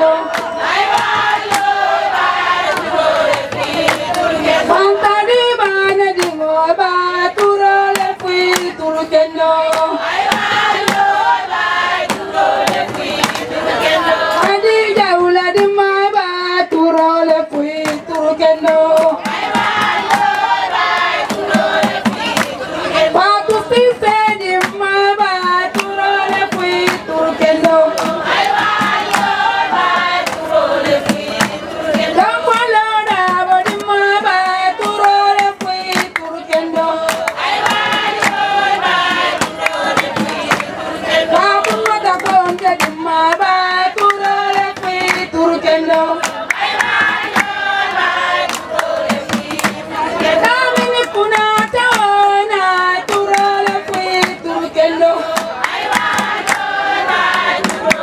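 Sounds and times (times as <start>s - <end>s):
rhythmic hand clapping: 0.0s - 58.0s
women singing in chorus: 0.0s - 58.0s.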